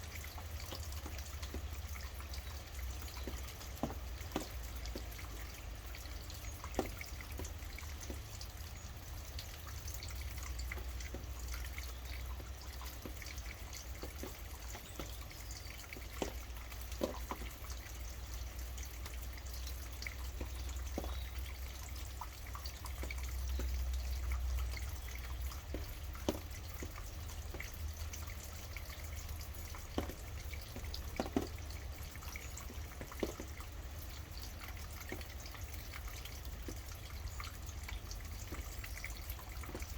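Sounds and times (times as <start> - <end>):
loud water drips: 0.0 - 39.9.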